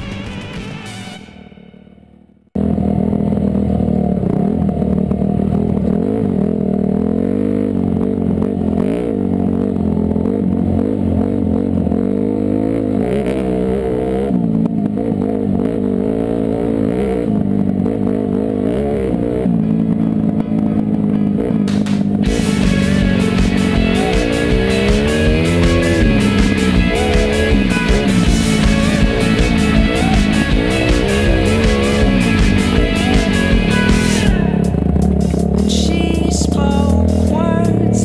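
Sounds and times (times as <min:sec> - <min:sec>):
muffled dirt bike engine: 0:01.8 - 0:38.0.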